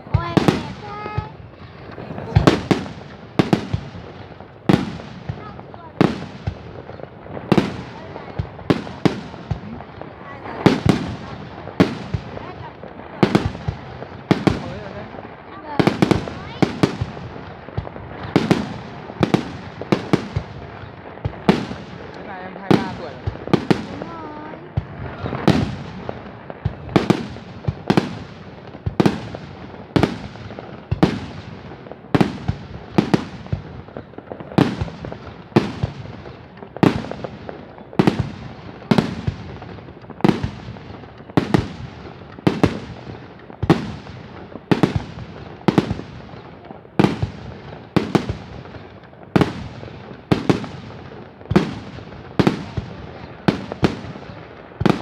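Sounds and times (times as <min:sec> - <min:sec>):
fireworks bangs echoing: 0:00.0 - 0:55.0.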